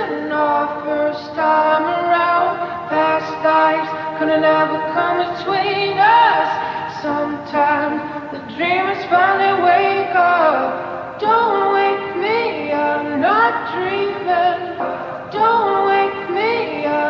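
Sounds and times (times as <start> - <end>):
pop song with high vocals: 0.0 - 17.0.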